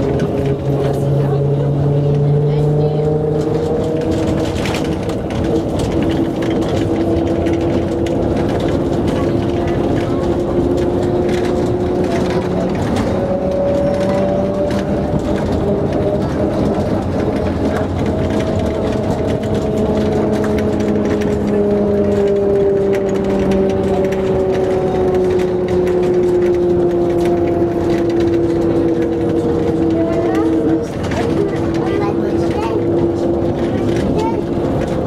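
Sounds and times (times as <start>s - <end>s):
tram tyres rumbling: 0.0s - 35.0s.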